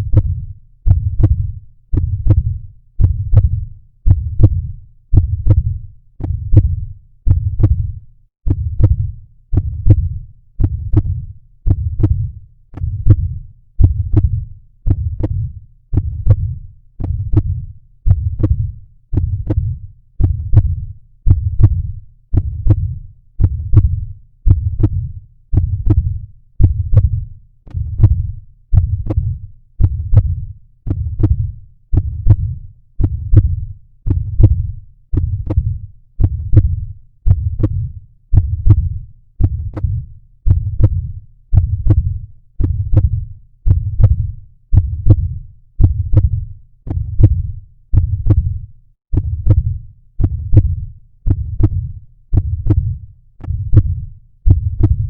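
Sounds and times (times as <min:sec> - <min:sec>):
heartbeat: 0:00.0 - 0:55.0.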